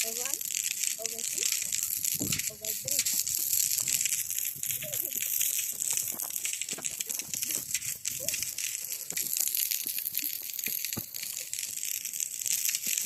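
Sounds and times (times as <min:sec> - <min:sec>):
dough deep-frying in hot oil: 0:00.0 - 0:13.0.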